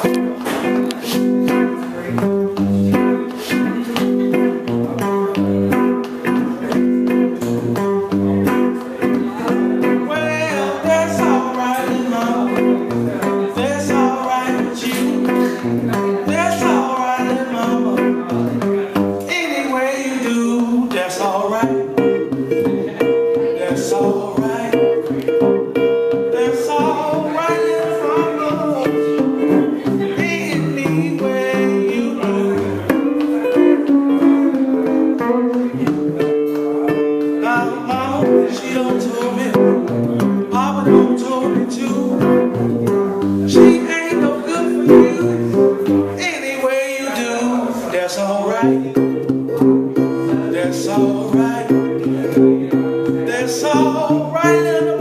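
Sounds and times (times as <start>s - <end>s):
solo blues guitar: 0.0s - 55.0s.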